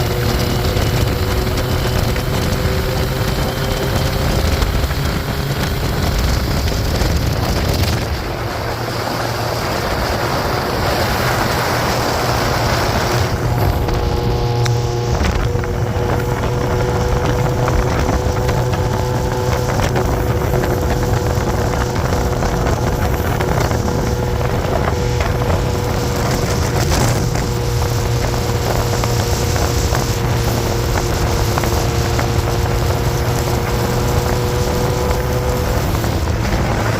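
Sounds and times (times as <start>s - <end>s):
motorcycle engine hum: 0.0s - 36.9s
wind rushing over microphone: 0.0s - 36.9s.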